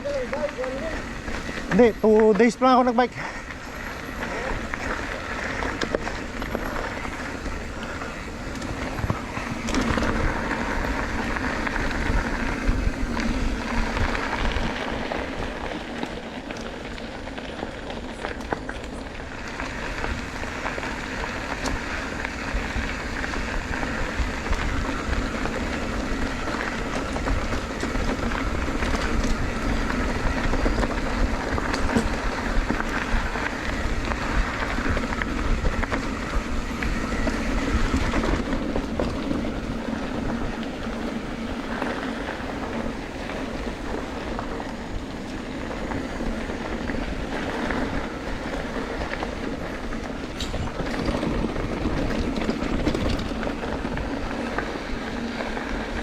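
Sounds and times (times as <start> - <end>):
wind rush on microphone: 0.0 - 2.3, 3.1 - 56.0
bicycle tyre noise on road: 0.0 - 56.0.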